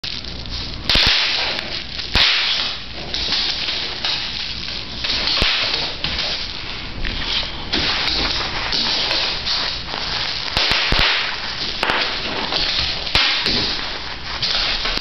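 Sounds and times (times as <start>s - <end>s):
bubble wrap crinkling: 0.0s - 15.0s
bubble wrap popping: 0.0s - 15.0s.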